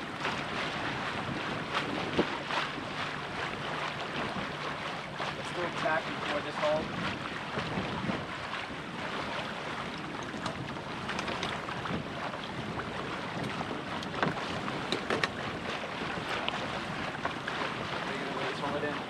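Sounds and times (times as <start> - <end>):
water rushing around boat: 0.0 - 19.0
wind buffeting microphone: 0.0 - 19.0.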